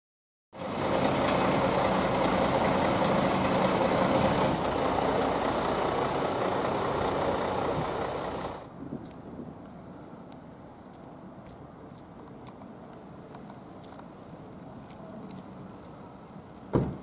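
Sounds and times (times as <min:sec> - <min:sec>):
diesel railcar passing: 0:00.6 - 0:17.0.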